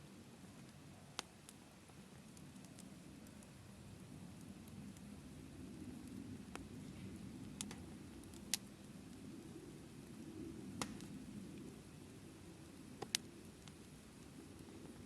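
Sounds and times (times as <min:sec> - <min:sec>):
fire crackles and pops: 0:00.0 - 0:15.0
wood fire rumbling: 0:00.0 - 0:15.0.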